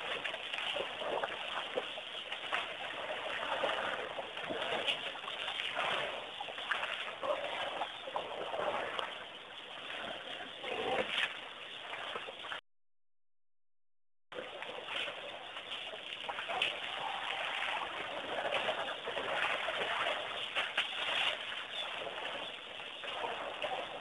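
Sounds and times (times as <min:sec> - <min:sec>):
muddy water splashing: 0:00.0 - 0:12.6, 0:14.3 - 0:24.0.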